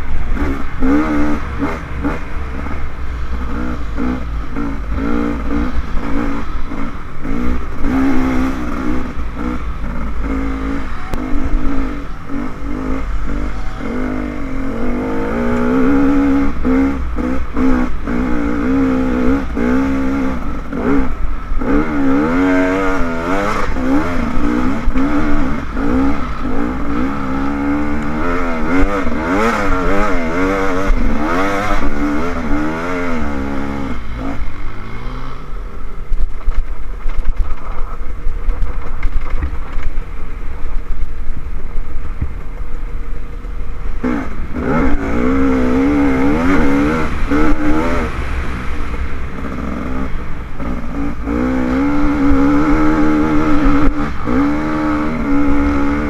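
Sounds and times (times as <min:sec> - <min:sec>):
dirt bike engine revving: 0:00.0 - 0:39.8, 0:43.9 - 0:56.0
low wind rumble on microphone: 0:00.0 - 0:56.0.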